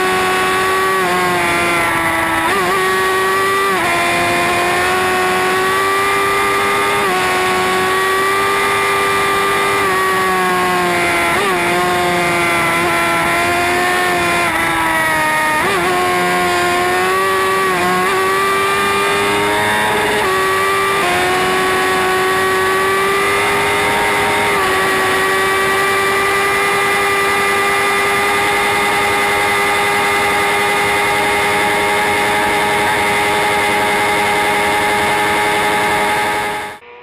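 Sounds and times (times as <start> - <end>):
motorcycle engine at high revs: 0.0 - 37.0.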